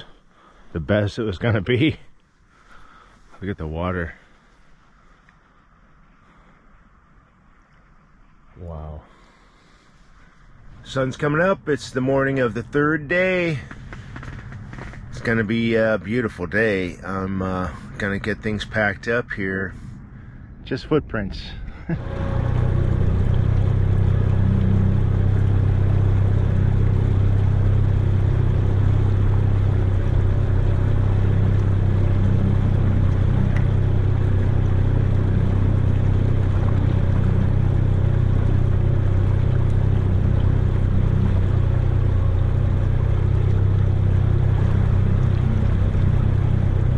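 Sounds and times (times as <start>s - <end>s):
water rushing: 0.0s - 19.8s, 20.7s - 46.9s
outboard motor drone: 0.0s - 46.9s
wind: 0.0s - 46.9s.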